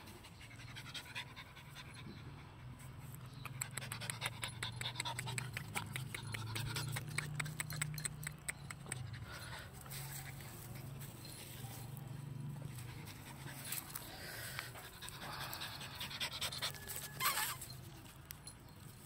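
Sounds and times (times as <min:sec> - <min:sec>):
dog panting: 0:00.0 - 0:11.3, 0:12.6 - 0:17.1.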